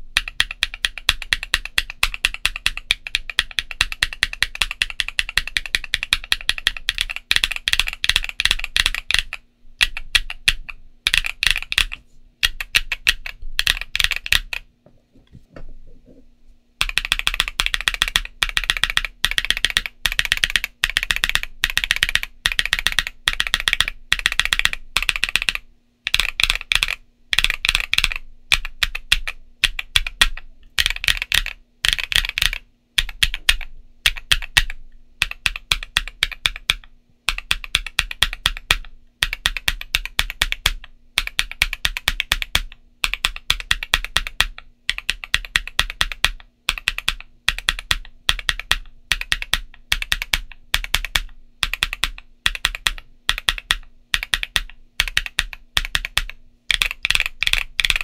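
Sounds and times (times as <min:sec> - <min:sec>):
mechanical keyboard typing: 0:00.0 - 0:14.7, 0:16.8 - 0:58.0.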